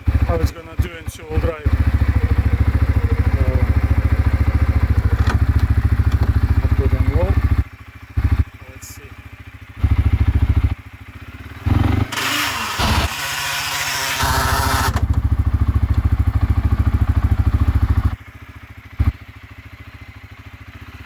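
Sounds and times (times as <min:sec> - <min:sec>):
atv engine under throttle: 0:00.0 - 0:21.0.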